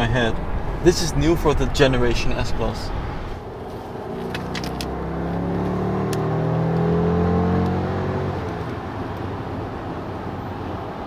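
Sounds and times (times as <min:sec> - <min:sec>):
car engine accelerating: 0:00.0 - 0:10.2
road and tyre noise: 0:00.0 - 0:11.0.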